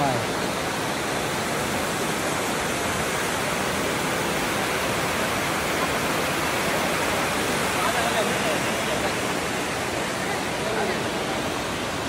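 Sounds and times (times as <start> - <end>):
stream pouring over rocks: 0.0 - 12.0.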